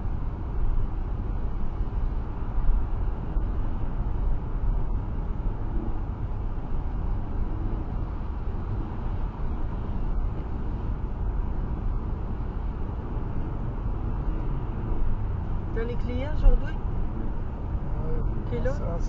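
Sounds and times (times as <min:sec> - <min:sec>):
car road and tyre noise: 0:00.0 - 0:19.0.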